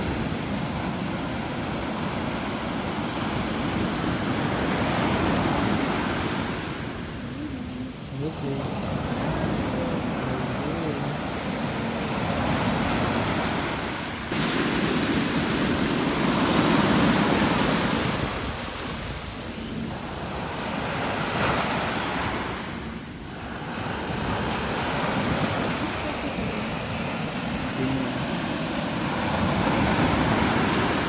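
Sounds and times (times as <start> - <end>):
surf washing up a sandy beach: 0.0 - 31.0.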